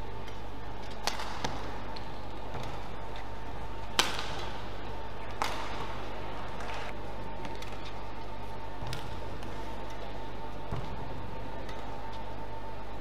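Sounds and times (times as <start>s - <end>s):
steady hum: 0.0s - 13.0s
racket hitting shuttlecock: 0.2s - 12.2s.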